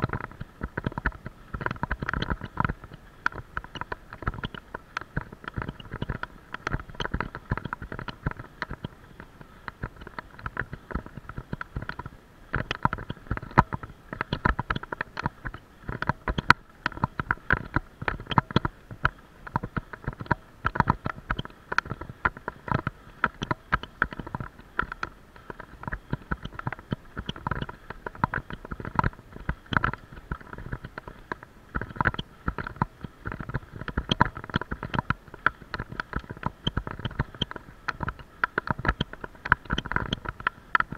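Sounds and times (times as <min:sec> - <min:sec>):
camera mount rattling and knocking: 0:00.0 - 0:08.9, 0:09.7 - 0:40.9.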